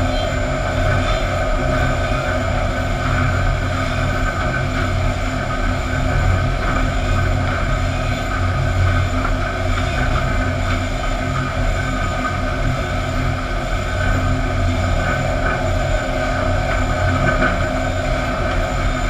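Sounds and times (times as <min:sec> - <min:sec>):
sawmill machinery drone: 0:00.0 - 0:19.0.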